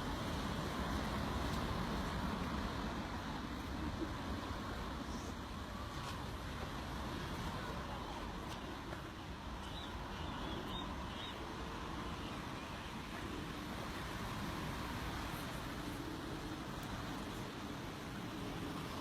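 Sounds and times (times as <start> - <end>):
steady rushing outdoor noise: 0.0 - 19.0.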